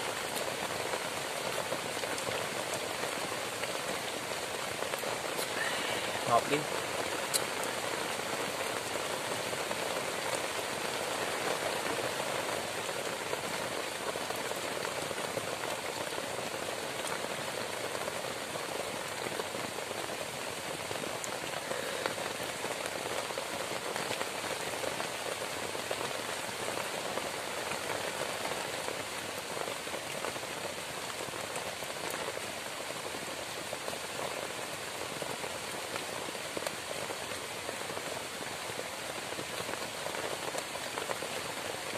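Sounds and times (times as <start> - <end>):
heavy rain on grass roof: 0.0 - 41.9.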